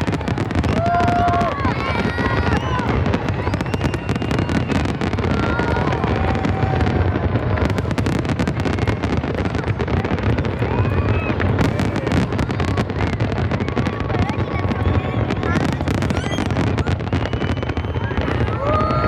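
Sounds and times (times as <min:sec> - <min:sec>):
fireworks crackling: 0:00.0 - 0:19.0
rumble of firework bursts: 0:00.0 - 0:19.0.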